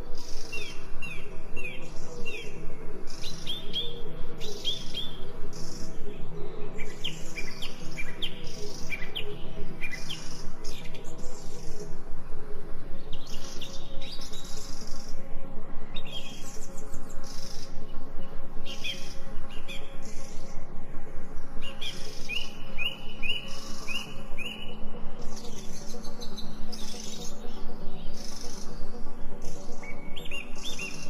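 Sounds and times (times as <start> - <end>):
soft musical drone: 0.0 - 31.0
songbirds chirping: 0.0 - 31.0.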